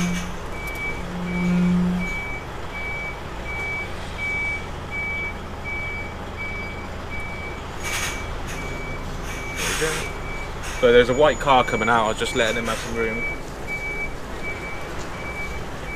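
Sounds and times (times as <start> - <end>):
reversing alarm beeping: 0.0 - 15.9
truck engine rumble: 0.0 - 15.9.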